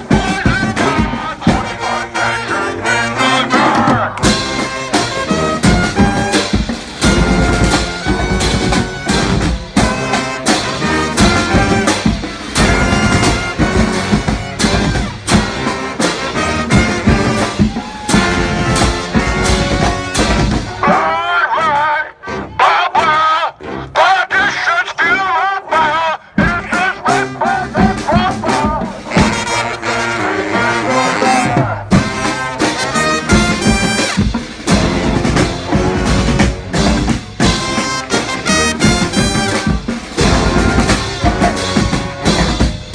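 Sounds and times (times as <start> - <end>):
drums beating: 0.0 - 2.2, 3.4 - 21.5, 26.3 - 42.9
brass horns playing: 0.0 - 42.9.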